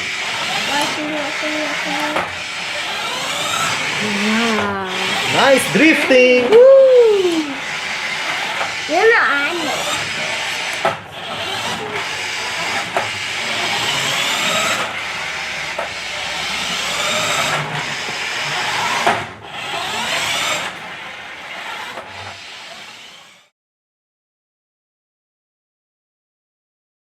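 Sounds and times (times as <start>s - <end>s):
toy car motor whining: 0.0s - 23.5s.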